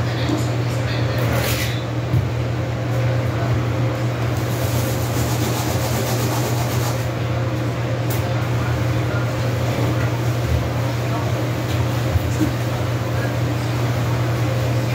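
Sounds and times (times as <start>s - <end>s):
low mechanical hum: 0.0s - 14.9s.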